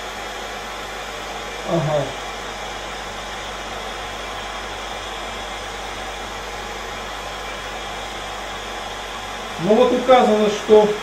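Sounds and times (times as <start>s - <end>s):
heat gun fan rushing air: 0.0s - 11.0s.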